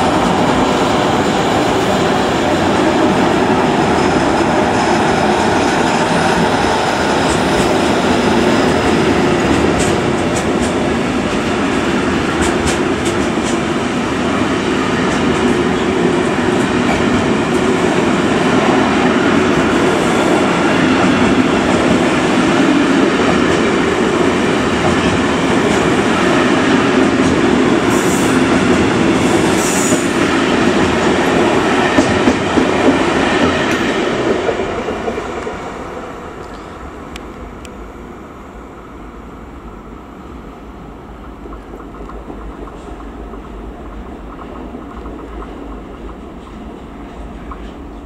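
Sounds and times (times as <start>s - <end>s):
freight train wheels rumbling on rails: 0.0s - 48.0s.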